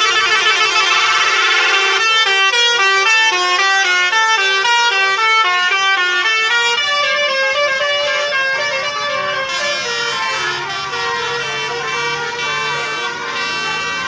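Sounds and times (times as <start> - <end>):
musical bus air horns: 0.0 - 14.0.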